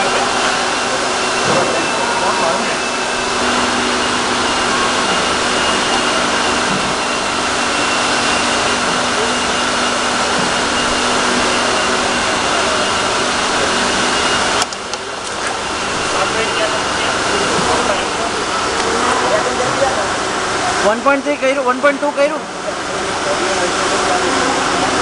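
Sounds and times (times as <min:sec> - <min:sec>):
machinery hum: 0:00.0 - 0:25.0
machinery rushing noise: 0:00.0 - 0:25.0.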